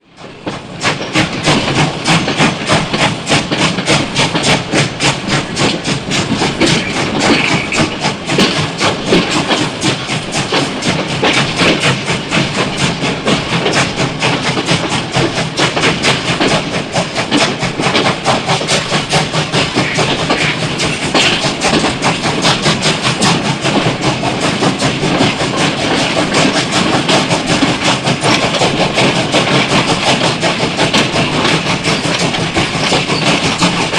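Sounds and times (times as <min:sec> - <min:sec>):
steam locomotive chuffing: 0:00.0 - 0:33.9.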